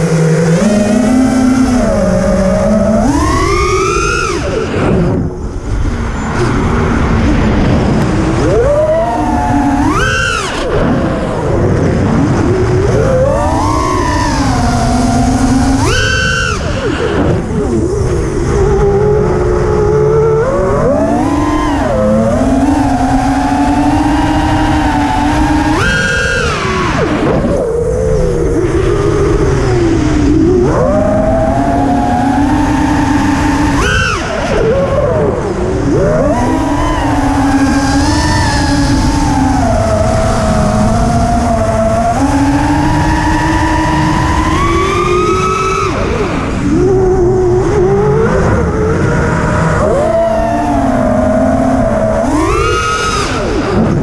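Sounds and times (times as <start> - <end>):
low rushing noise: 0.0 - 54.0
quadcopter motors whining: 0.0 - 54.0.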